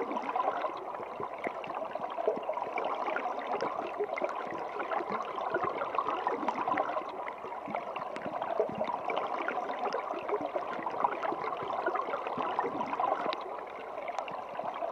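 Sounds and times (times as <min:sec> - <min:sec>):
water trickling and gurgling: 0:00.0 - 0:14.9.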